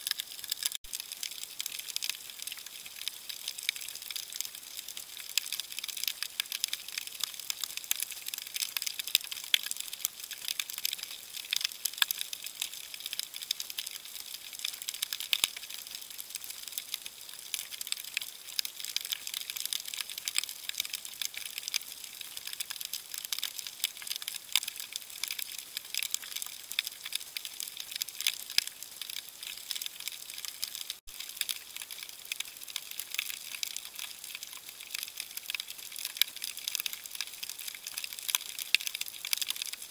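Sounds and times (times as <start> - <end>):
underwater crackling: 0.0 - 39.9.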